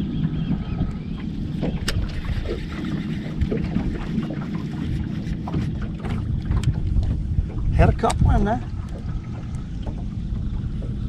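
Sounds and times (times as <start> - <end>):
water against boat hull: 0.0 - 11.0
wind rumbling on microphone: 0.0 - 11.0.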